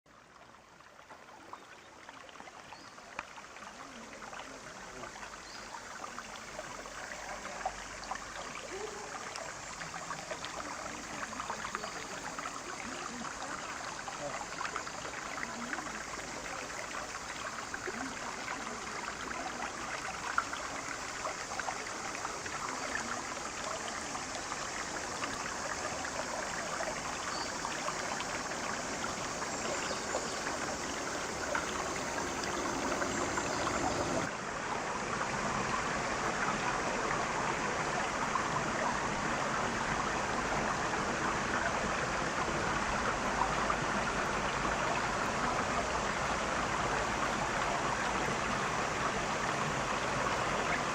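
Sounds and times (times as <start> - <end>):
river water rushing: 3.0 - 50.9.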